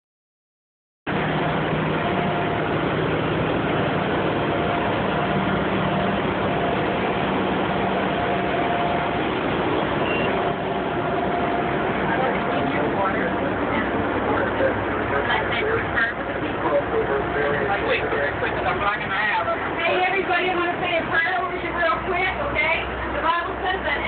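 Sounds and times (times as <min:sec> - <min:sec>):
bus engine idling: 0:01.1 - 0:24.0.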